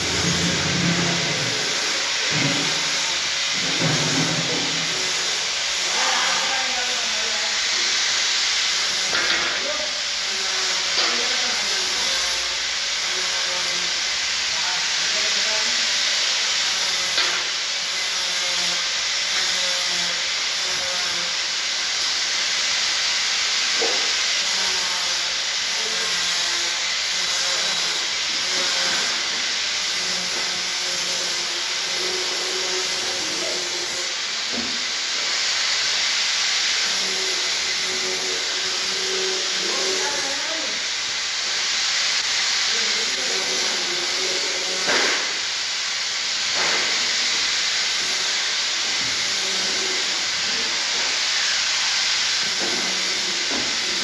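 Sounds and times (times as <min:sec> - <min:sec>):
loud welding crack: 0:00.0 - 0:13.8, 0:14.4 - 0:54.0
welding arc hissing crackle: 0:00.0 - 0:54.0.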